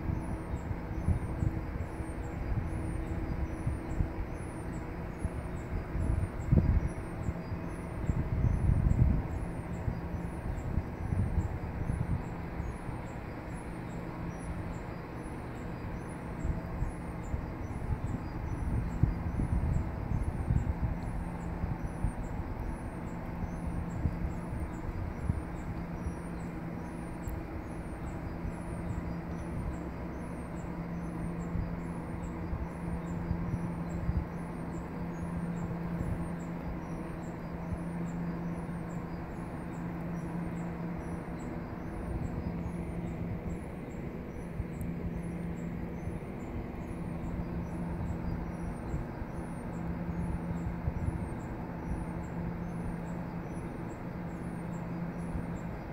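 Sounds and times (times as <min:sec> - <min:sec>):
antenna drive machinery humming: 0:00.0 - 0:55.9.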